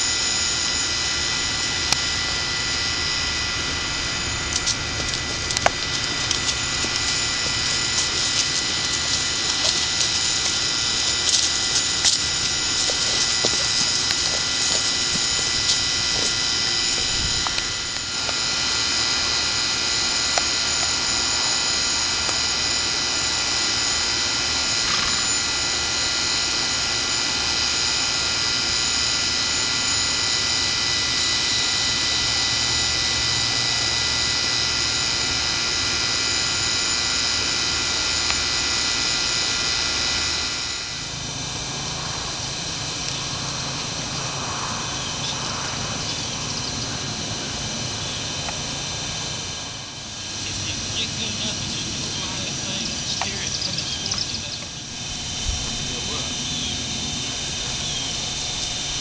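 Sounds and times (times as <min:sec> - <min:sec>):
model airplane motor whining: 0:00.0 - 0:59.0.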